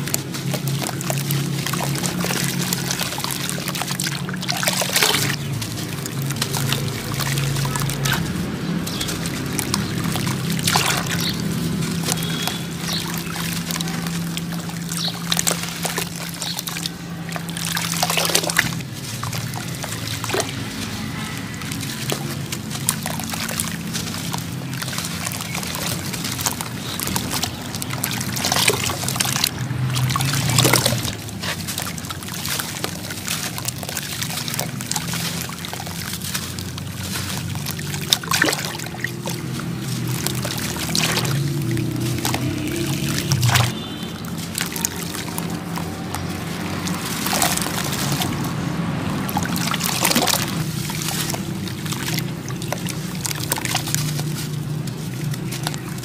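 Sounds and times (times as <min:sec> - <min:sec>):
loud splashes: 0:00.0 - 0:56.0
water sloshing and trickling: 0:00.0 - 0:56.0
wet grit crumbling by hand: 0:00.0 - 0:56.0.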